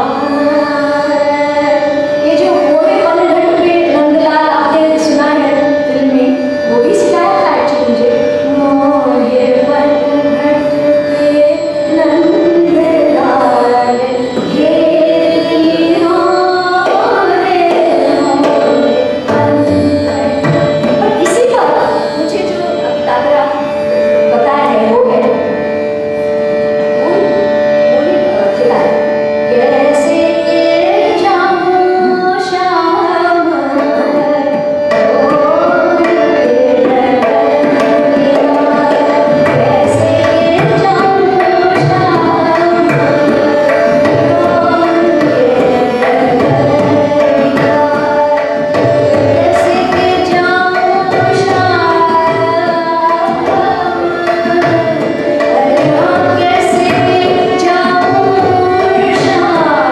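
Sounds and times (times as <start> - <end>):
woman singing classical vocals: 0.0 - 23.4, 27.9 - 59.9
tabla strokes: 0.0 - 59.9.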